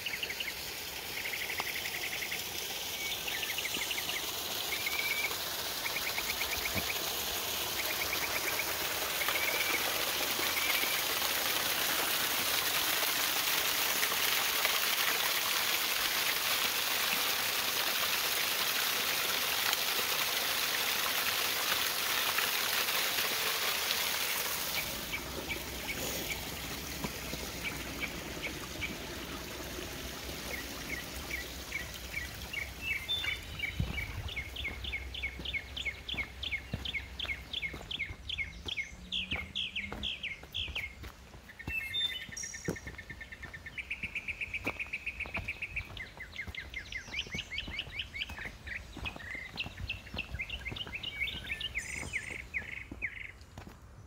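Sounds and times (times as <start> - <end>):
songbirds singing: 0.0 - 13.2, 14.0 - 54.0
small waterfall splashing: 0.0 - 53.8.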